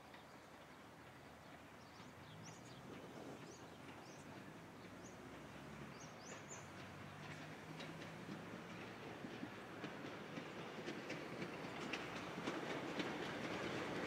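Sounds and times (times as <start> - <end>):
railcar humming: 0.0 - 14.0.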